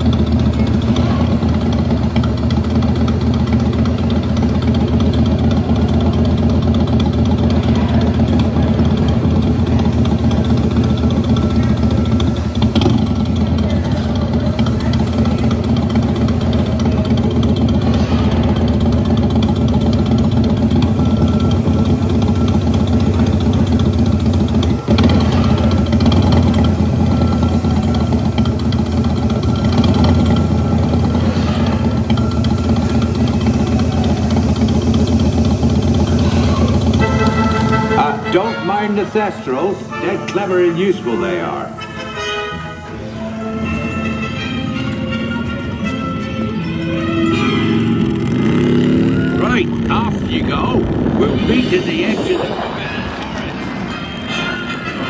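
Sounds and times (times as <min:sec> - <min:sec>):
motorcycle engine idling rumble: 0:00.0 - 0:38.5, 0:42.7 - 0:53.6.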